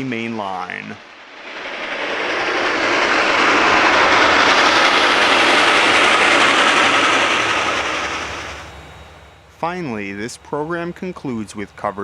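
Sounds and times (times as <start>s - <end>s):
steam locomotive passing: 0.0s - 12.0s.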